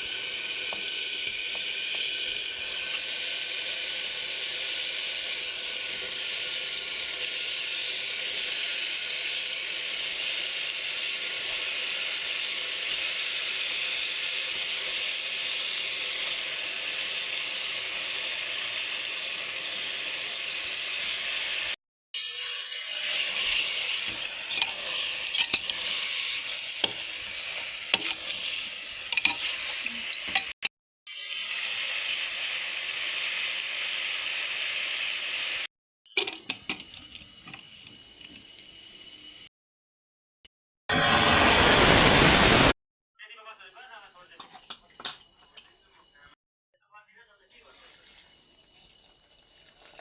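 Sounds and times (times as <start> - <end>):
food sizzling in hot oil: 0.0 - 39.4, 40.9 - 42.8.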